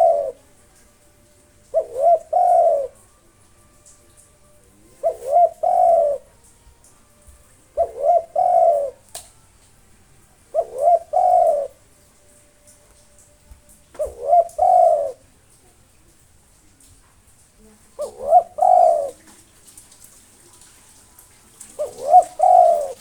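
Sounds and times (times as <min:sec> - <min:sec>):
dove cooing: 0:00.0 - 0:09.6, 0:10.2 - 0:15.6, 0:17.8 - 0:19.6, 0:21.2 - 0:23.0.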